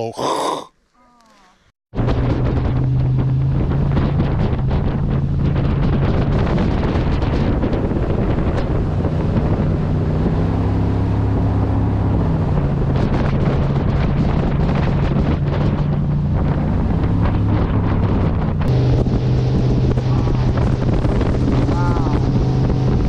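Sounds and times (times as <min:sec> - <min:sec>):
boat engine droning: 0:02.0 - 0:23.0
wind buffeting microphone: 0:02.0 - 0:23.0.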